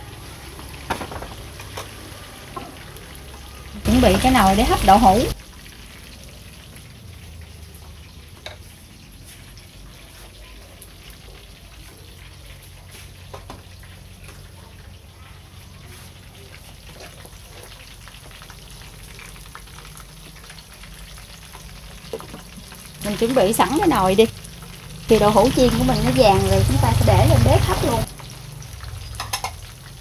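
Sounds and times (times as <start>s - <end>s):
tofu sizzling in oil: 0.0s - 30.0s.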